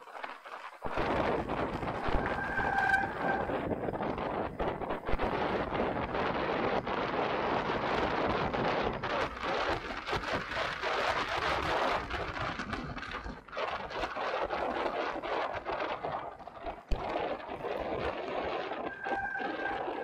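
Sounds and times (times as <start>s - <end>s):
bike tyre noise: 0.0s - 20.0s
wind buffeting microphone: 0.0s - 20.0s.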